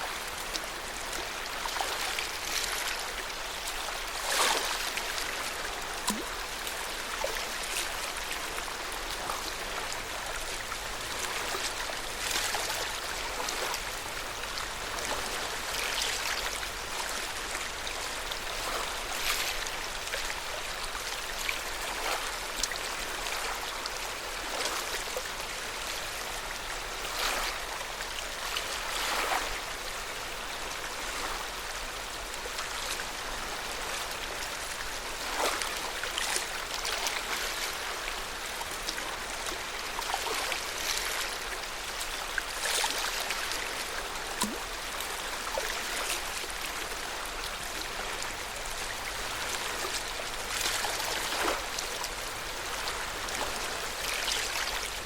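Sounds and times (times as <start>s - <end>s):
small water splashes: 0.0s - 23.7s, 28.4s - 29.6s, 33.9s - 55.0s
water washing on shore: 0.0s - 55.0s.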